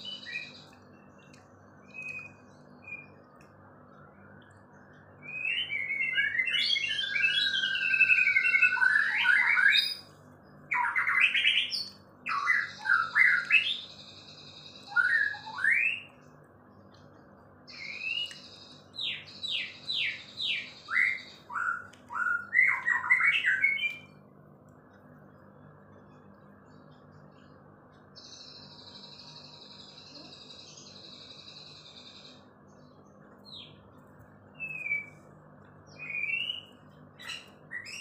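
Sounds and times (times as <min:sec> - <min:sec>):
songbird singing: 0:00.0 - 0:38.0.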